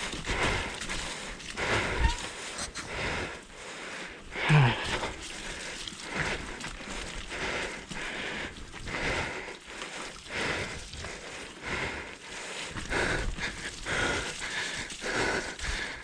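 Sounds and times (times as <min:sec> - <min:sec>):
person panting heavily: 0:00.0 - 0:16.0.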